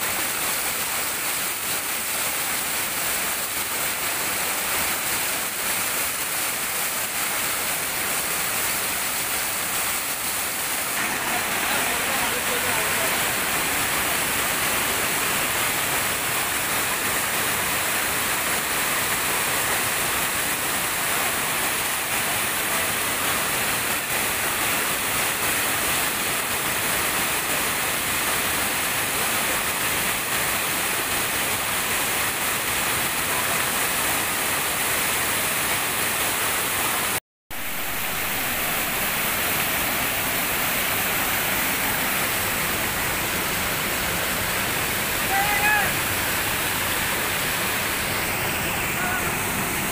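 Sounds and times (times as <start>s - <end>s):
waterfall rushing over boulders: 0.0s - 49.9s.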